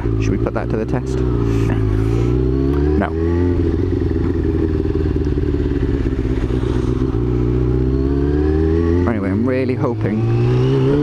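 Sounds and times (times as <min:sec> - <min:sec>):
motorcycle engine decelerating: 0:00.0 - 0:11.0.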